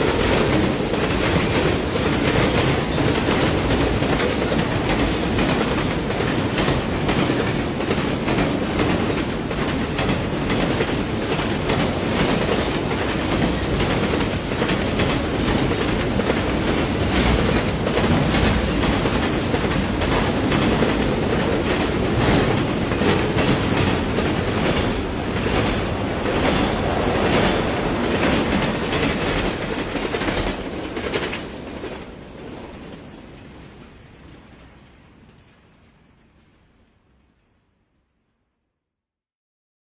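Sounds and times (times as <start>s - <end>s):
train wheels clacking over rail joints: 0.0s - 32.7s.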